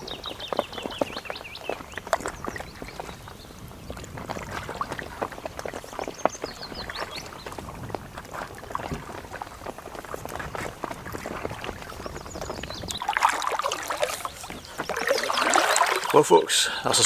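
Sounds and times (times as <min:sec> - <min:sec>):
kayak paddle splashing in water: 0:00.0 - 0:17.0.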